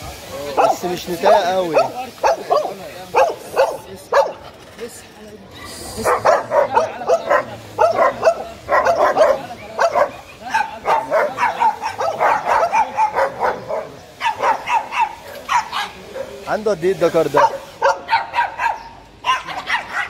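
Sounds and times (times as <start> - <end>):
dog barking: 0.6 - 4.4, 6.0 - 16.4, 17.4 - 20.0.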